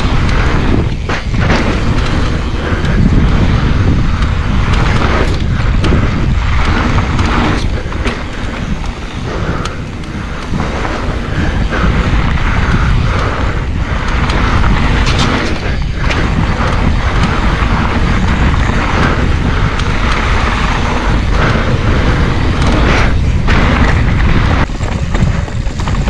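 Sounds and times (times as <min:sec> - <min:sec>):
bike rattles and clicks: 0:00.0 - 0:26.0
bike tyres rumbling on dirt: 0:00.0 - 0:26.0
wind buffeting microphone: 0:00.0 - 0:26.0.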